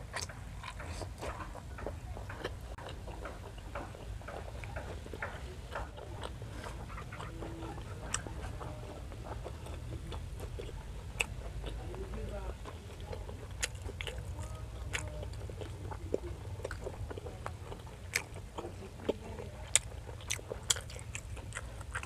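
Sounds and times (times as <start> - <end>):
steady low hum: 0.0 - 22.0
wet chewing clicks and smacks: 0.0 - 22.0.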